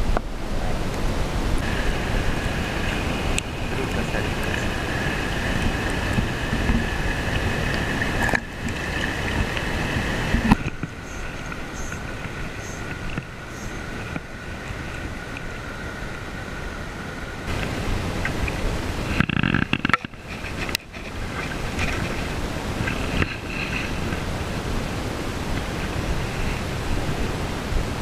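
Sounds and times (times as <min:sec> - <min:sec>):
river flowing over stones: 0:00.0 - 0:28.0
wind noise on microphone: 0:00.0 - 0:28.0.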